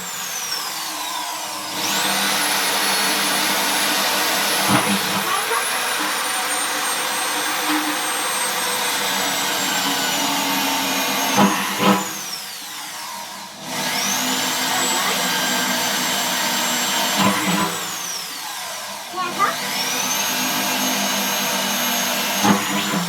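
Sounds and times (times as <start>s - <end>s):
power drill whining: 0.0s - 23.0s.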